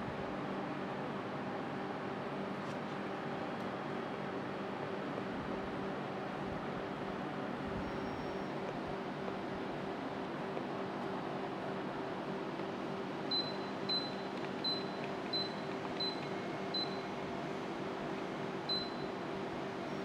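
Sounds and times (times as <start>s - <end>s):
air conditioner airflow hiss and hum: 0.0s - 20.0s.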